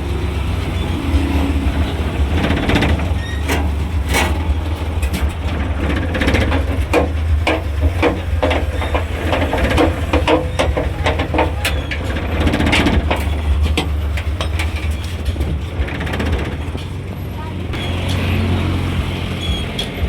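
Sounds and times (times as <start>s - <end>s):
engine idling: 0.0s - 20.0s
knocks and clicks: 0.0s - 20.0s.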